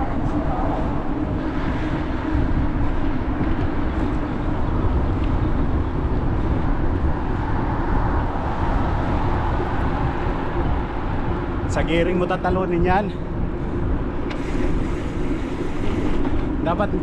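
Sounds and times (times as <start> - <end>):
bicycle tyre road noise: 0.0 - 17.0
wind rumble on microphone: 0.0 - 17.0.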